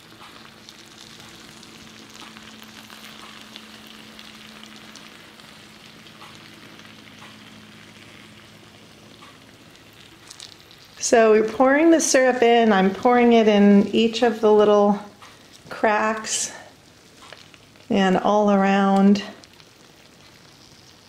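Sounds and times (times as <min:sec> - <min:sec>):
faint steady hum: 0:00.0 - 0:21.0
syrup sizzling on hot pastry: 0:00.0 - 0:21.0.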